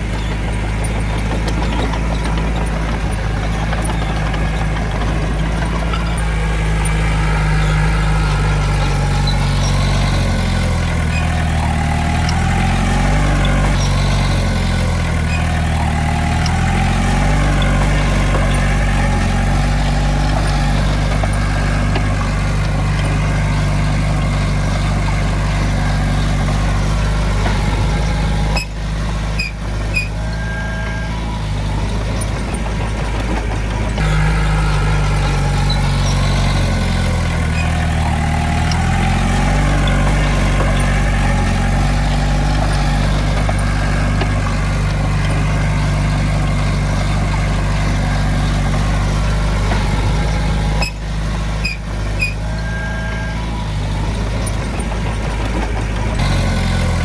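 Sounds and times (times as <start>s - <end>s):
heavy diesel engine running: 0.0s - 57.0s
high squeaks: 0.0s - 57.0s.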